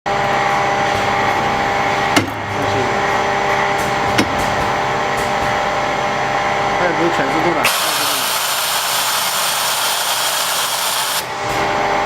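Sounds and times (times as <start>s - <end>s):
machinery whirring and humming: 0.1s - 12.0s.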